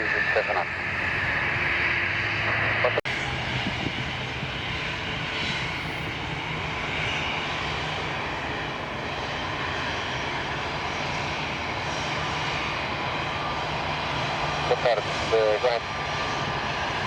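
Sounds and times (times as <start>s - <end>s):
airliner engines running: 0.0s - 17.0s.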